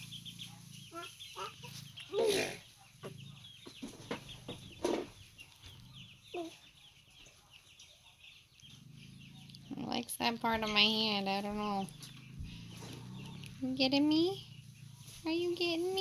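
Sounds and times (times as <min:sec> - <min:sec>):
coyote pup growling: 0:00.0 - 0:06.7, 0:08.4 - 0:15.3
chickens clucking and chirping: 0:00.0 - 0:16.0.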